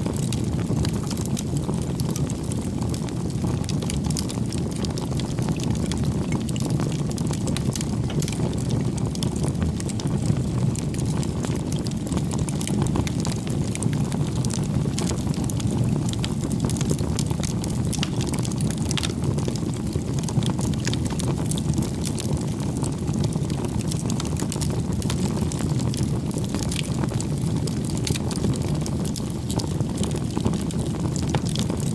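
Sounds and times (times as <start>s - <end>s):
campfire flames rushing: 0.0s - 31.9s
fire crackling and popping: 0.0s - 31.9s.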